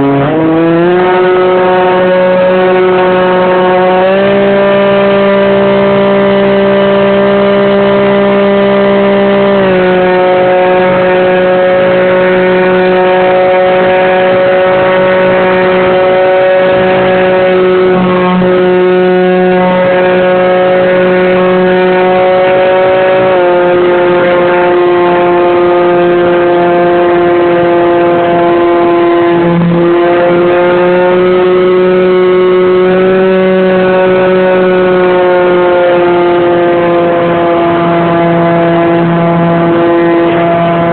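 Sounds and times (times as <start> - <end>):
electric motor and propeller whine: 0.0 - 40.9.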